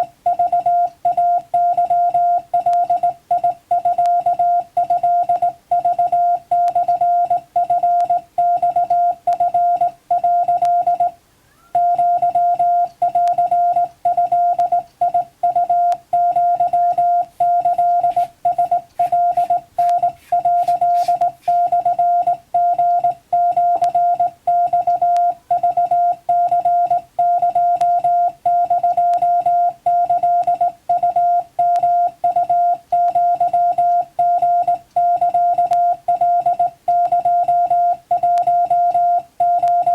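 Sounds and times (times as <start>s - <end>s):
faint low hum: 0.0s - 39.9s
morse code tone: 0.0s - 39.9s.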